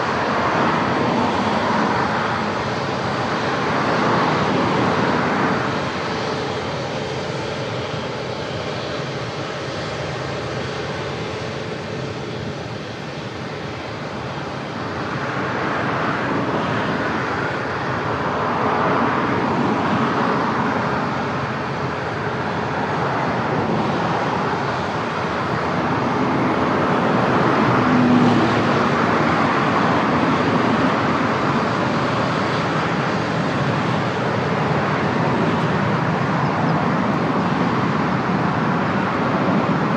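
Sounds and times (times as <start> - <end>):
jet engine rushing: 0.0 - 39.9.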